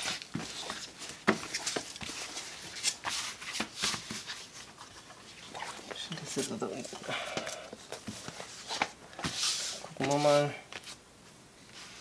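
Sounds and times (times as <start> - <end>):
faux leather rustling and crinkling: 0.0 - 11.0.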